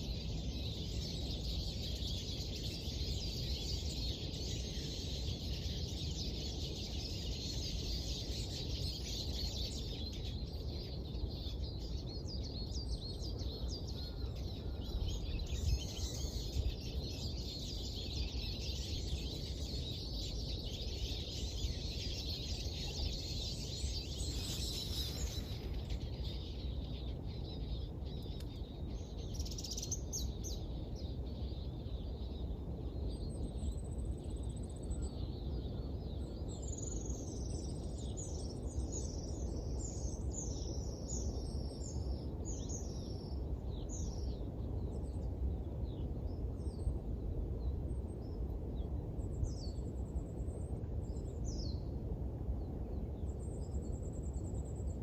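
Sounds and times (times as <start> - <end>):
small birds chirping: 0.0 - 45.3.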